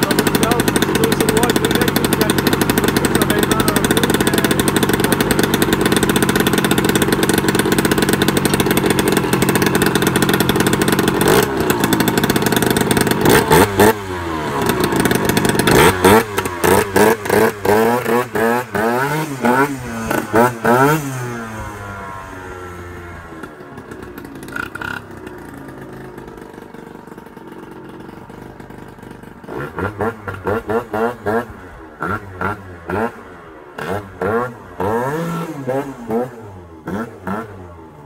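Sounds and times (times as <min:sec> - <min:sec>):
scooter engine idling and revving: 0:00.0 - 0:38.0.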